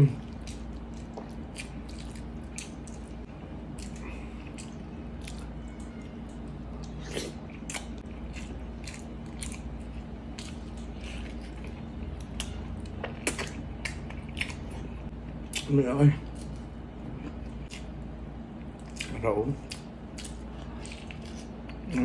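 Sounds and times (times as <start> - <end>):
steady low hum: 0.0 - 22.0
chewing and mouth clicks: 0.1 - 3.2, 3.8 - 18.0, 18.6 - 22.0.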